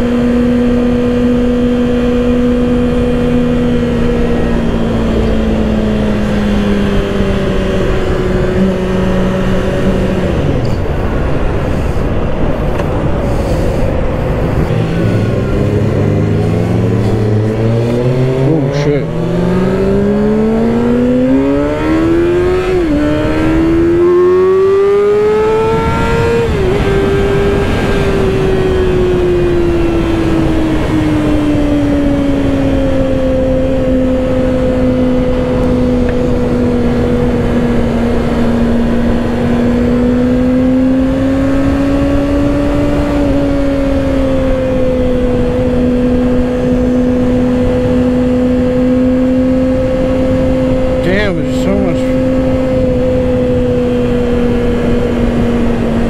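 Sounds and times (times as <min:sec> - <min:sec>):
motorcycle engine revving hard: 0:00.0 - 0:10.6, 0:14.4 - 0:56.0
wind noise: 0:00.0 - 0:56.0.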